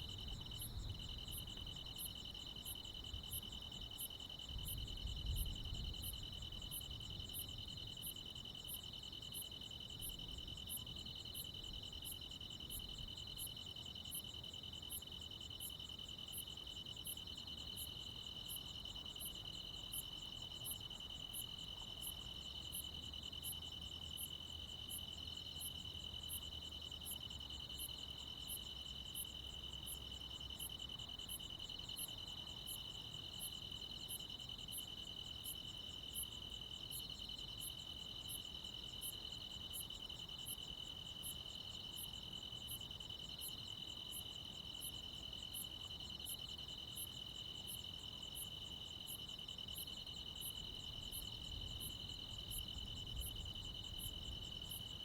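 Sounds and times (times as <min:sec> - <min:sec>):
higher insect chirp: 0:00.0 - 0:55.0.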